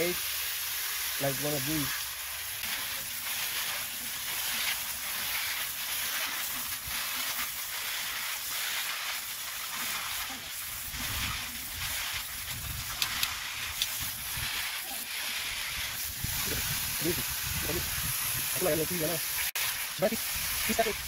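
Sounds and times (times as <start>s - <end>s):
hose spray splashing into bowl: 0.0s - 21.0s.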